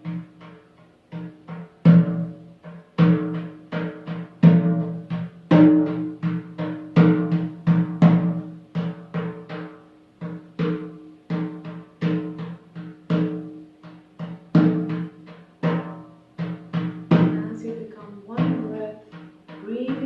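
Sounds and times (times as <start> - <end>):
low ringing drum beat: 0.0 - 20.0.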